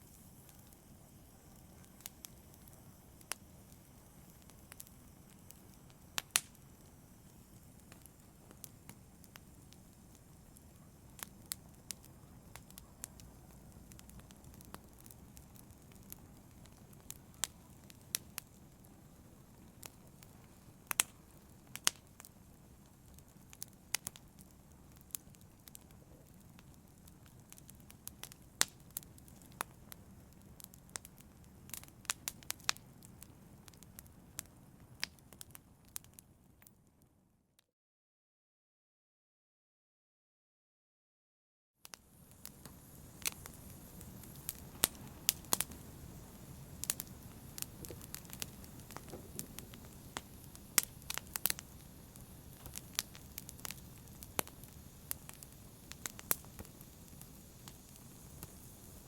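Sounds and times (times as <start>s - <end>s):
fireplace fire crackling: 0.0s - 36.7s, 41.8s - 59.0s.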